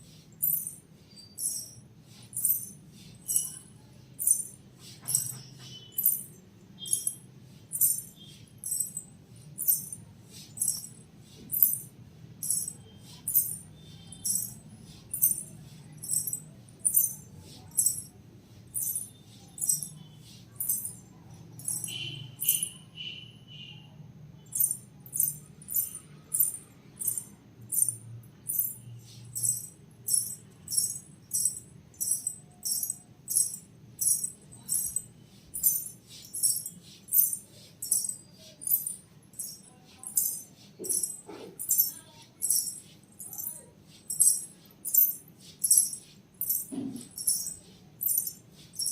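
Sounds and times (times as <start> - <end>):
anklet bells jingling: 0.4 - 23.6, 24.5 - 48.9.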